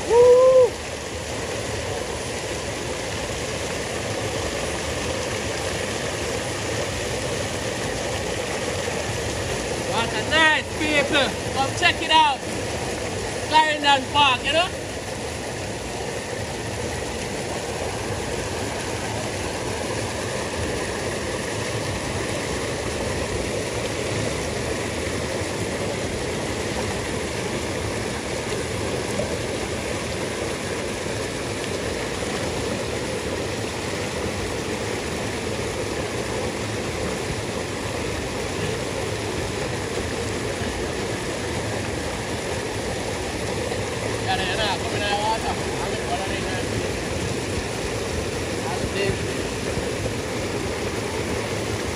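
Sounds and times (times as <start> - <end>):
river water rushing over cascade: 0.0 - 51.9.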